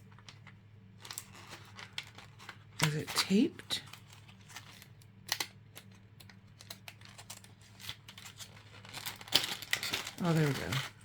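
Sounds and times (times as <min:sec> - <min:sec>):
plastic package clicks and crinkles: 0:00.0 - 0:11.0.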